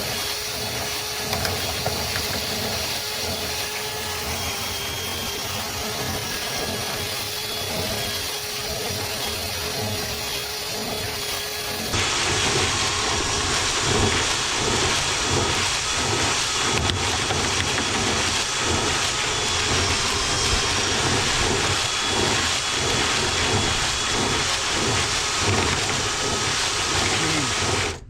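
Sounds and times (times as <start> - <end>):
drill brush scraping inside duct: 0.0 - 28.0.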